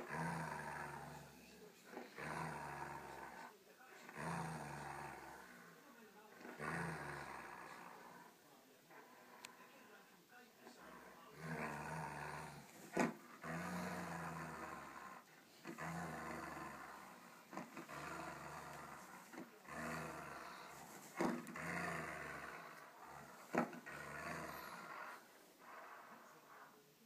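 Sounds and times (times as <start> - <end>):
dog growling in play: 0.0 - 9.7, 10.6 - 26.8.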